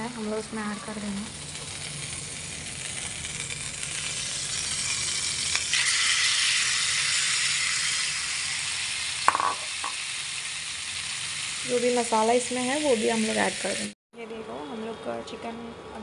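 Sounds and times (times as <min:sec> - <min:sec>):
butter sizzling in frying pan: 0:00.9 - 0:13.9.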